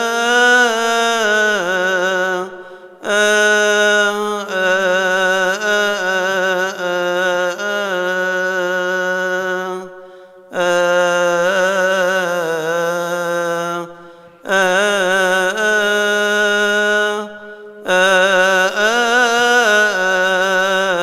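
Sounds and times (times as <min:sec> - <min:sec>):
man chanting a hymn: 0:00.0 - 0:21.0.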